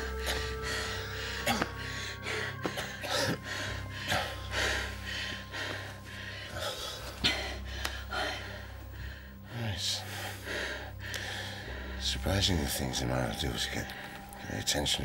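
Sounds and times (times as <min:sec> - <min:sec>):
rapid heavy breathing: 0:00.0 - 0:12.4
low steady drone: 0:00.0 - 0:15.0.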